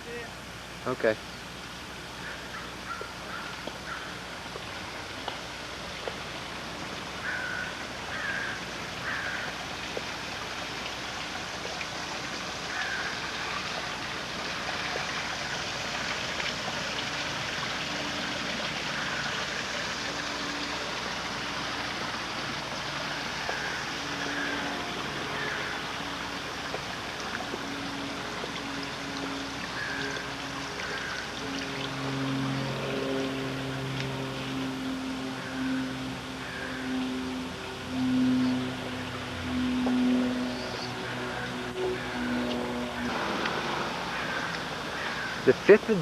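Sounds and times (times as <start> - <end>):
running water rushing: 0.0 - 46.0.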